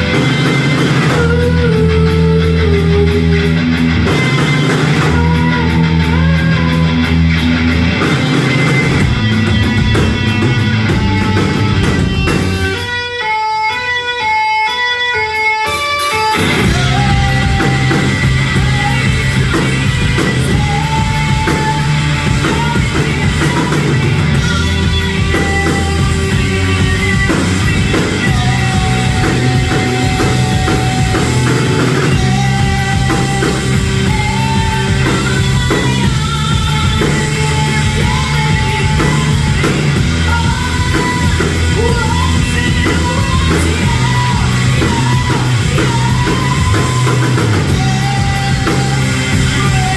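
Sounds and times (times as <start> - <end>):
bass: 0.0 - 13.9, 16.1 - 49.9
drums: 0.0 - 49.9
electric guitars: 0.0 - 49.9
person singing: 0.0 - 49.9.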